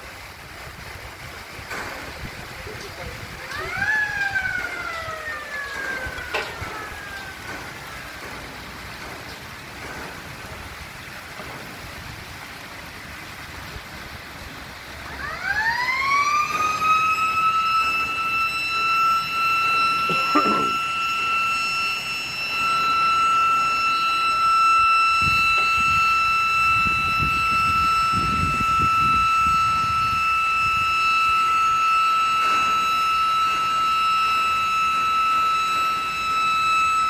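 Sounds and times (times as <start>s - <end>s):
fountain water splashing: 0.0s - 37.0s
siren wailing: 1.7s - 12.6s, 13.8s - 37.0s.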